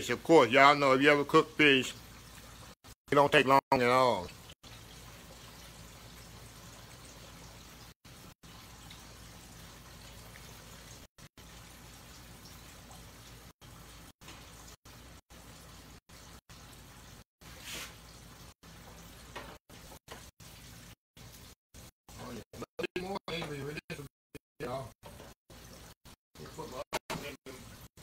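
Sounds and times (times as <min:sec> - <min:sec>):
fish deep-frying in hot oil: 0:00.0 - 0:23.7, 0:24.6 - 0:28.0.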